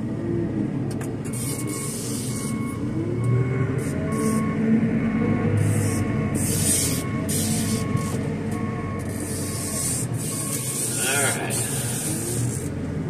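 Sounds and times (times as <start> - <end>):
engine running: 0.0 - 13.0
warning alarm beeping: 1.3 - 12.2.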